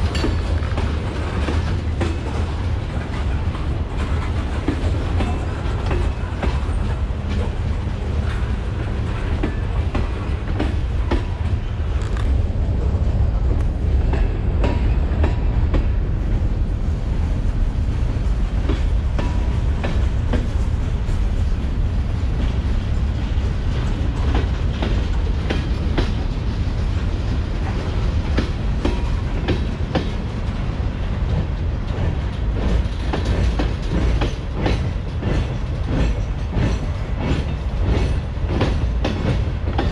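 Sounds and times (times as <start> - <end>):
wheels clicking over rail joints: 0.0 - 12.4, 17.3 - 39.9
freight train rumbling past: 0.0 - 39.9.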